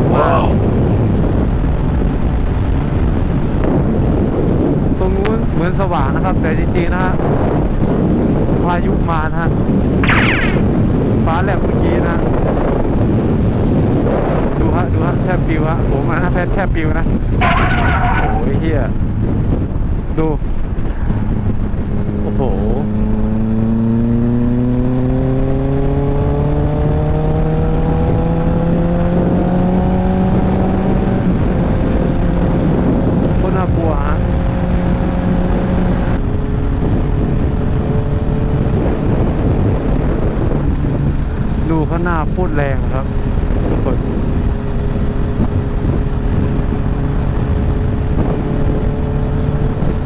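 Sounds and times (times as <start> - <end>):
wind buffeting microphone: 0.0 - 50.0
motorcycle engine drone: 9.8 - 50.0.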